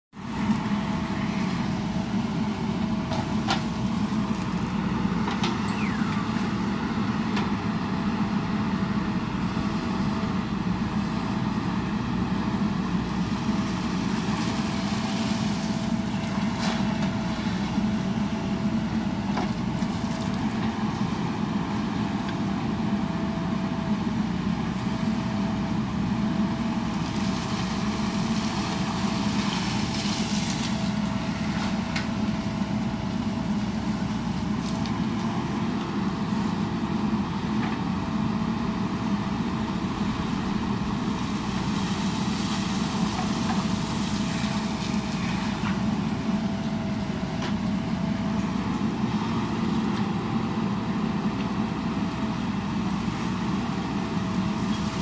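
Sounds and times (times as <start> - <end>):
diesel engine running: 0.1 - 55.0.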